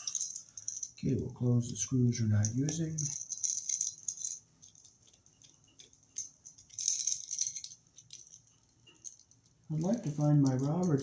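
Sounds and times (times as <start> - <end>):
metal tools rattling: 0.0 - 11.0.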